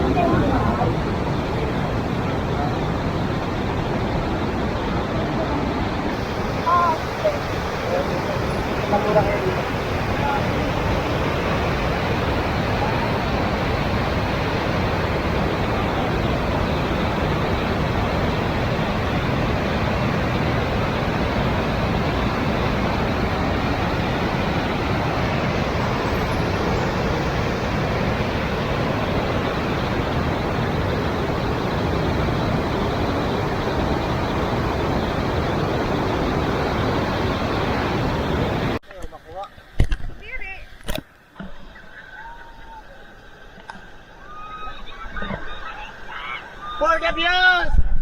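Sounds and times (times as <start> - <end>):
rushing water: 0.0 - 38.8.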